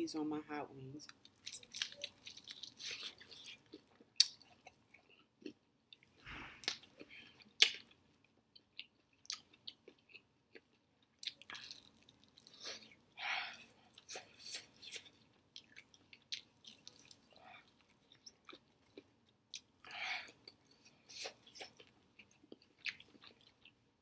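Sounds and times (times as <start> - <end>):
chewing with mouth clicks and crunches: 1.2 - 23.8.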